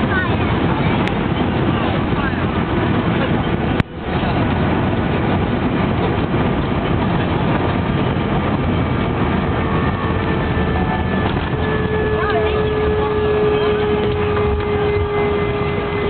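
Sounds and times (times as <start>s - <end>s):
aircraft cabin engine noise: 0.0s - 16.0s.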